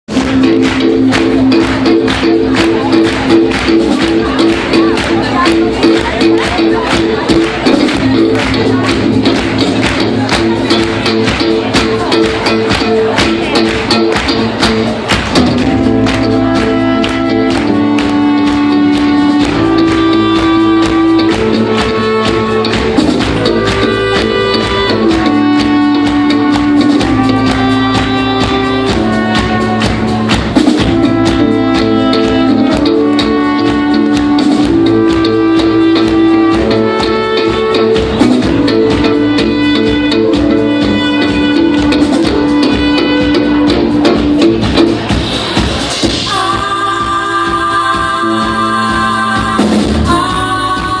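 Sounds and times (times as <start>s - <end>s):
live band playing instrumental: 0.1s - 51.0s.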